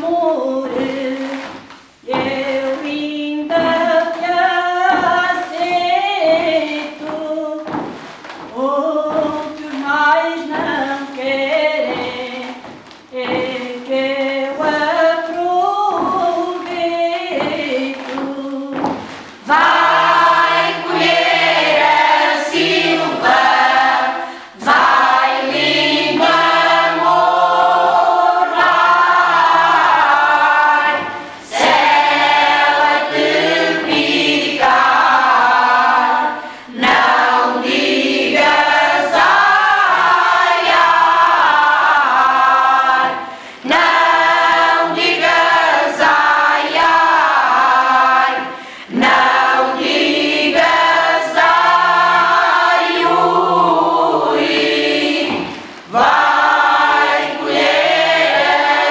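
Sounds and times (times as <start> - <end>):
women's choir singing: 0.0 - 58.9.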